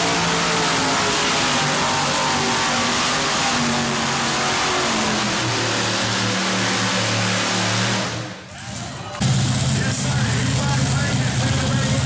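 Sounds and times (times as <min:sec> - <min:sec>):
tractor engine running flat out: 0:00.0 - 0:12.0.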